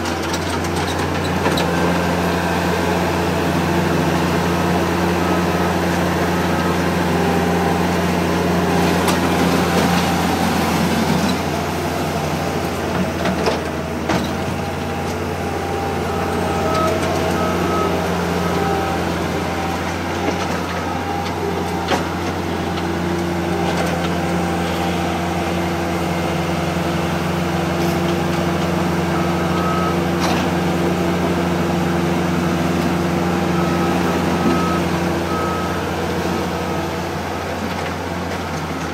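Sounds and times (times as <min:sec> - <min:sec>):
diesel engine running: 0:00.0 - 0:38.9
reversing alarm beeping: 0:02.0 - 0:12.8, 0:13.4 - 0:38.1.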